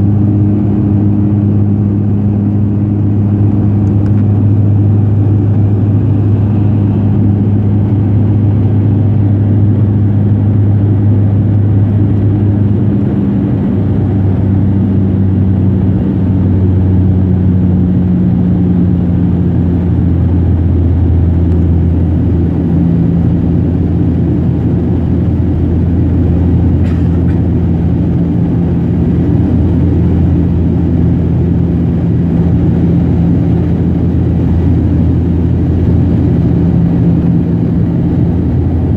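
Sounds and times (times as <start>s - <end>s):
turboprop engine cabin hum: 0.0s - 38.9s.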